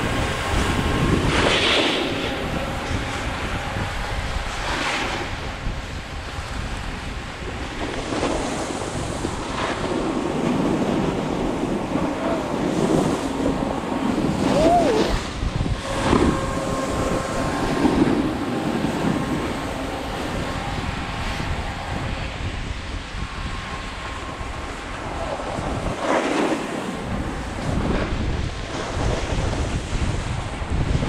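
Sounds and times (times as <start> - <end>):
faint snowmaking fan hum: 0.0 - 31.0
wind rushing over microphone: 0.0 - 31.0.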